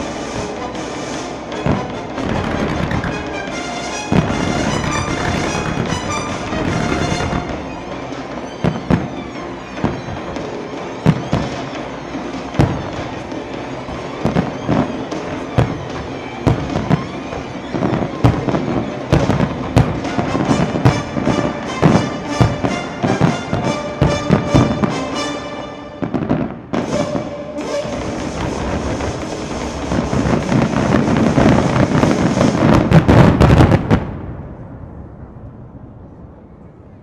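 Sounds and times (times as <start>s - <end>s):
music: 0.0s - 33.9s
fireworks shells bursting: 0.0s - 34.0s
rapid crackling fireworks: 0.0s - 35.3s.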